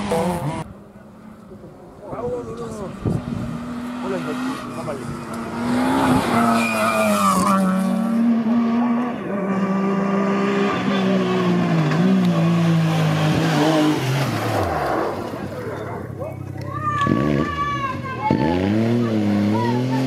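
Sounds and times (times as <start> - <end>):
rally car engine at high revs: 0.0 - 0.7, 2.6 - 16.0, 17.0 - 20.0.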